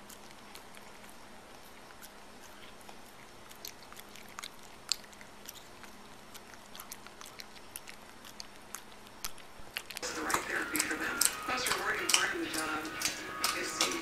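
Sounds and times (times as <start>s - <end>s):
dog licking and smacking: 0.0s - 14.0s.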